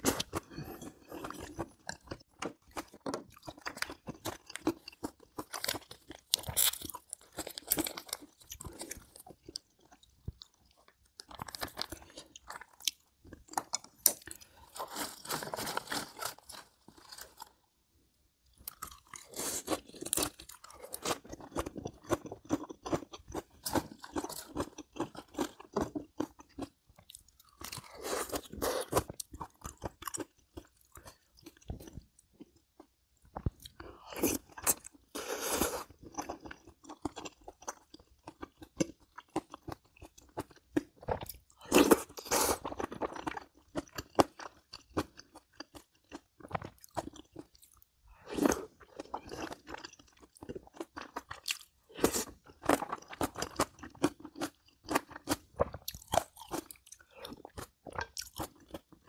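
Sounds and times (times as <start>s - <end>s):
person chewing crunchy food: 0.0s - 17.7s, 18.5s - 59.0s.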